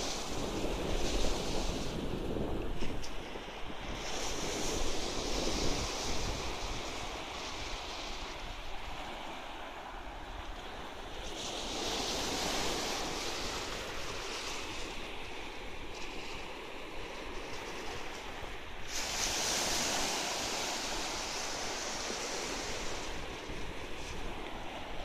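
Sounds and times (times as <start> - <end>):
sea waves washing up shore: 0.0 - 25.0.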